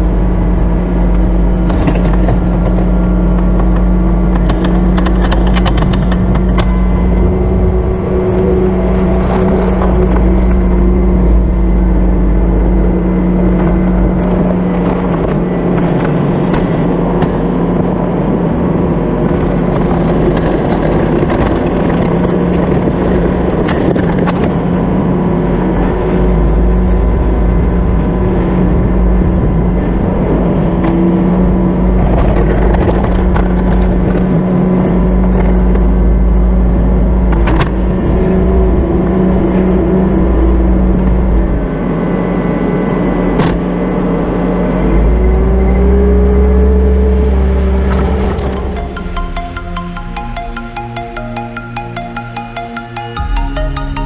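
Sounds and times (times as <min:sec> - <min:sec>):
loader engine running: 0:00.0 - 0:54.0.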